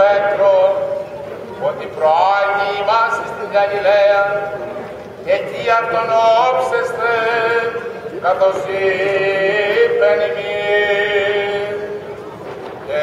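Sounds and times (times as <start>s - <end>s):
man chanting: 0.0s - 12.1s.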